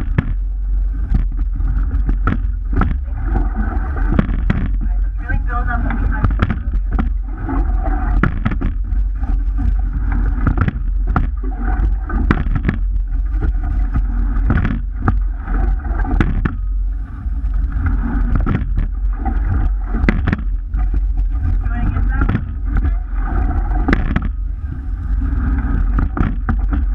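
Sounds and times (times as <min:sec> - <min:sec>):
low rumble: 0:00.0 - 0:26.9
water rushing along a hull: 0:00.0 - 0:26.9.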